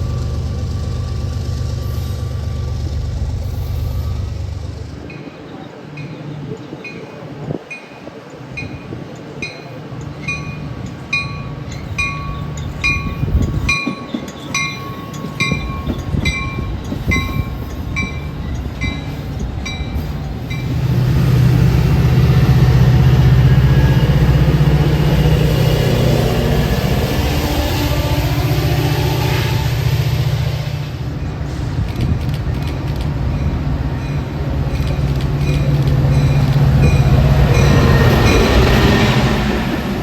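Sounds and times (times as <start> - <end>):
railroad bell ringing: 0.0 - 31.6, 32.6 - 40.0
diesel train passing: 0.0 - 40.0.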